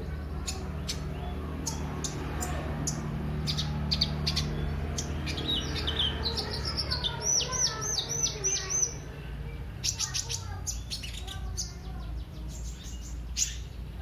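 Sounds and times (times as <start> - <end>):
small bird singing: 0.0 - 14.0
steady low hum: 0.0 - 14.0.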